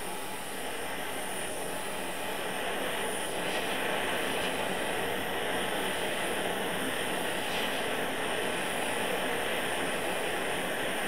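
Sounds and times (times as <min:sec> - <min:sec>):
butane torch hissing: 0:00.0 - 0:11.0.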